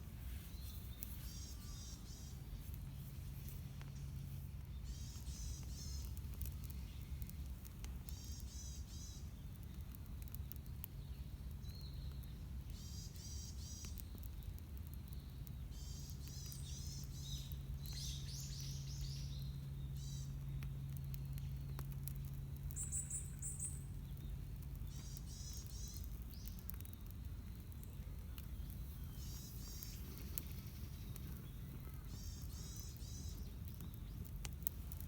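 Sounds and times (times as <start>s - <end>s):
steady low hum: 0.0s - 13.8s, 15.0s - 35.0s
small birds chirping: 0.0s - 35.0s.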